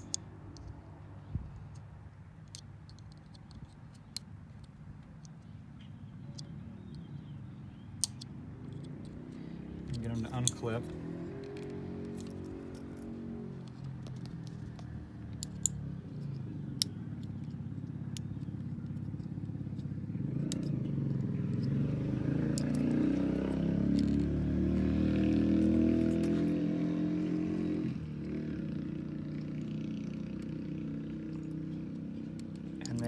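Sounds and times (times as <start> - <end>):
vehicle engine running: 5.9 - 33.0.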